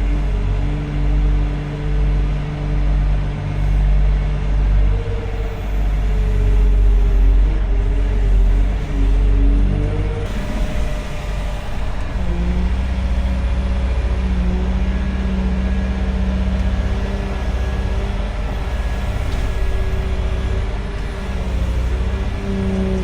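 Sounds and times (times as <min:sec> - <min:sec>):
heavy diesel engine droning: 0:00.0 - 0:23.0.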